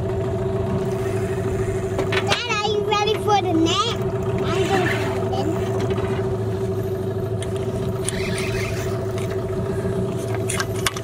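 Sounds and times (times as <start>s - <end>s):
boat motor humming with whine: 0.0s - 11.0s.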